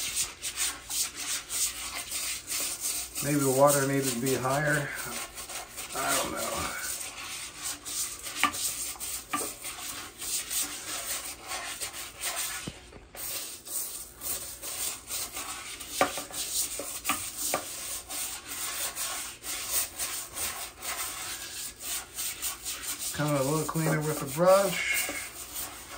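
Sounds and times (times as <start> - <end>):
toilet brush scrubbing bowl: 0.0 - 25.9.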